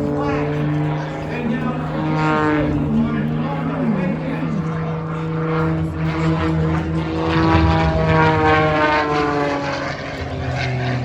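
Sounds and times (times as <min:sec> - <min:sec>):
propeller airplane passing by: 0:00.0 - 0:11.0.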